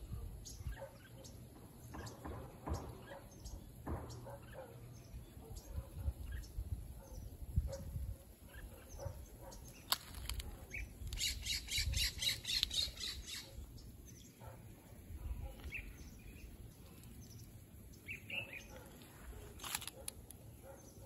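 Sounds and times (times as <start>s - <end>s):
bird chirping: 0.0s - 7.8s, 8.4s - 19.5s.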